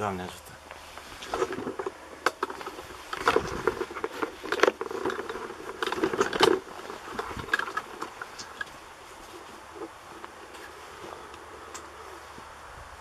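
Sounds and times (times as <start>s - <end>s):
footsteps on leaves and gravel: 0.6s - 12.5s.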